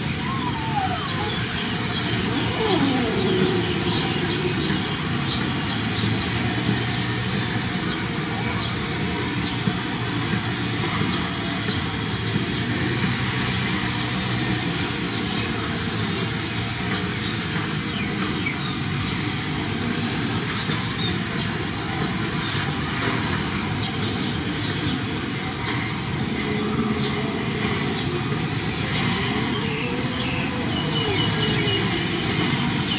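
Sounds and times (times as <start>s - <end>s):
low rumbling background noise: 0.0s - 32.9s.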